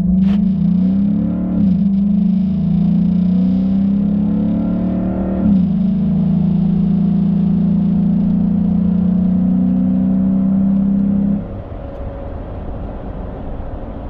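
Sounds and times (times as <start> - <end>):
engine and road rumble while coasting: 0.0 - 14.0
engine droning under full throttle: 0.0 - 14.0.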